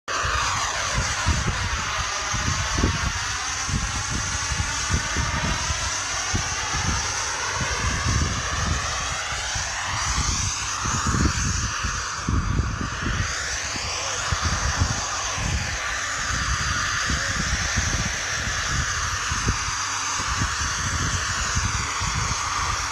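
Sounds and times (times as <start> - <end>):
aircraft engine whine: 0.0 - 22.9
wind buffeting microphone: 0.1 - 22.9.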